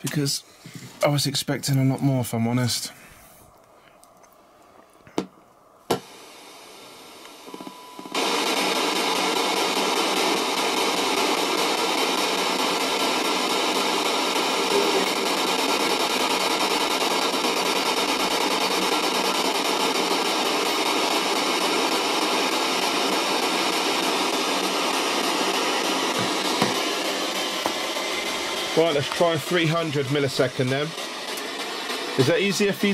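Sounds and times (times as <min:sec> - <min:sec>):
radio static hiss: 0:05.8 - 0:32.9.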